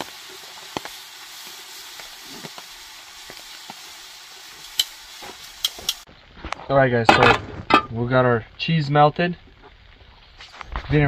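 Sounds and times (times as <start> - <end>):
tortilla sizzling in a pan: 0.0 - 11.0.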